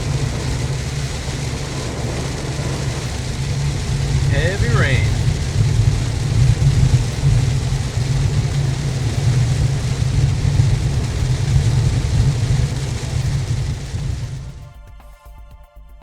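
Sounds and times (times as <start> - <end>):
road and engine rumble: 0.0 - 14.6
hiss of rain and spray: 0.0 - 14.7.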